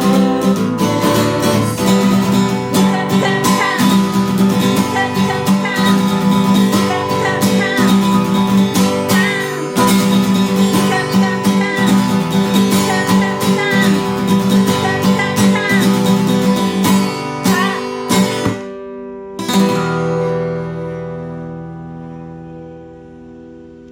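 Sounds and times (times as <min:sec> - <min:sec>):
guitar chord ringing: 0:00.0 - 0:23.9
guitar strumming: 0:00.0 - 0:23.9.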